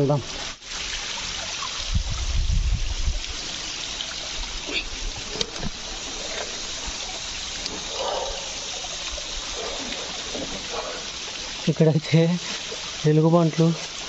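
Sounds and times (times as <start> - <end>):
water trickling among rocks: 0.0 - 14.0.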